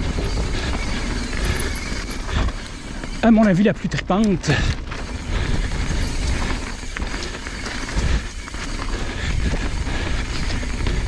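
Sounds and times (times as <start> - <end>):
wind rumble on microphone: 0.0 - 3.2, 4.5 - 11.0
bike rattling and knocking: 0.0 - 11.0
bike tyres on packed dirt: 0.0 - 11.0.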